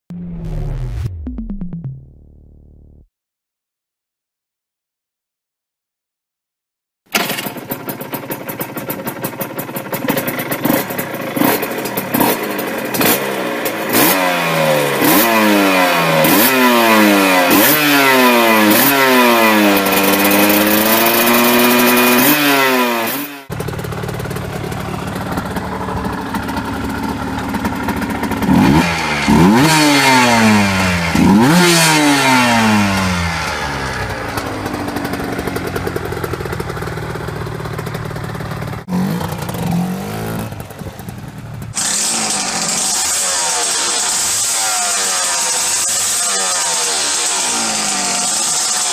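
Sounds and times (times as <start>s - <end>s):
motorcycle engine revving: 7.1s - 48.9s.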